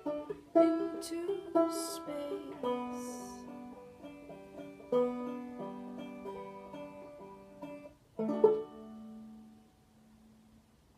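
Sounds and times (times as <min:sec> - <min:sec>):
banjo playing: 0:00.0 - 0:10.6.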